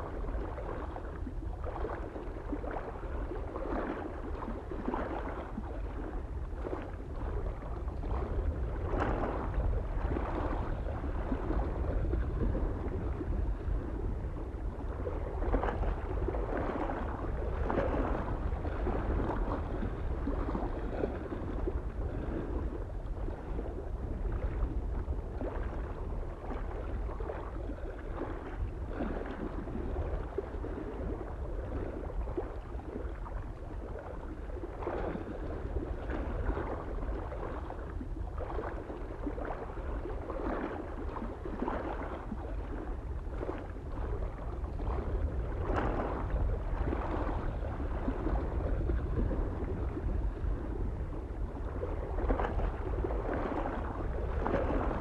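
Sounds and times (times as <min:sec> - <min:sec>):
low rumble of wind: 0:00.0 - 0:55.0
small waves lapping on shore: 0:00.0 - 0:55.0.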